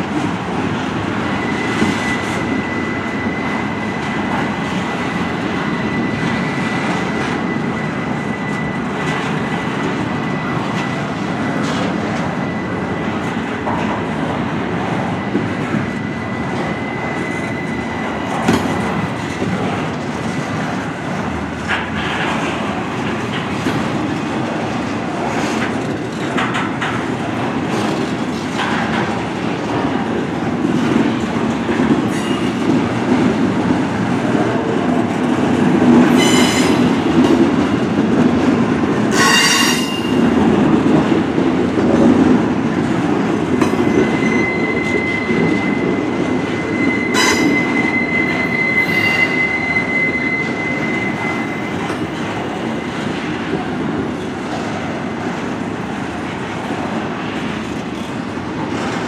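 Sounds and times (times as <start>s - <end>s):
clickety-clack over rail joints: 0.0s - 49.6s, 50.5s - 59.0s
freight cars rumbling on rails: 0.0s - 59.0s.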